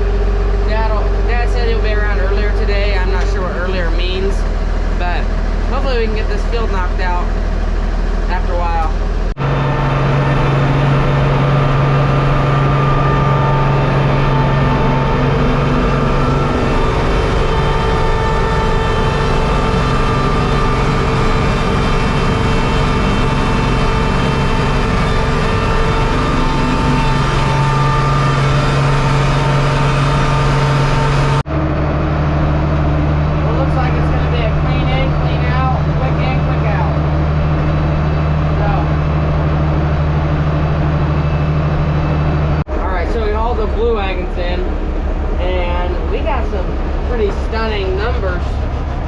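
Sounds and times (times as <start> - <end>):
high-pitched whine: 0.0 - 49.0
tractor engine running: 0.0 - 49.0.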